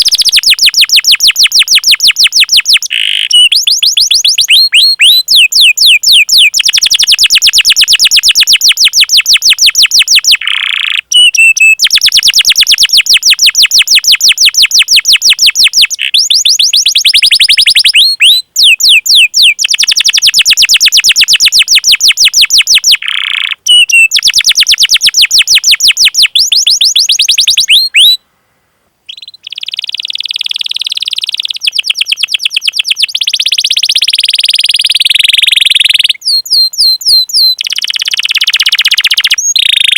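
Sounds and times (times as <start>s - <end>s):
canary singing rapid chirps: 0.0s - 28.2s, 29.1s - 39.9s.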